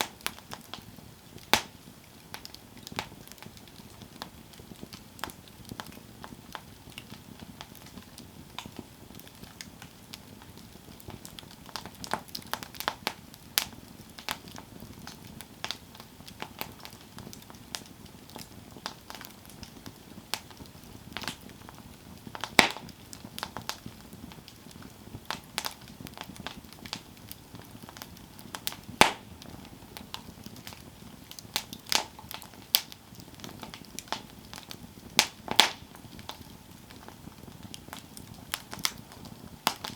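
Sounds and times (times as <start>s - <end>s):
campfire crackling and popping: 0.0s - 39.9s
flames hissing: 0.0s - 39.9s.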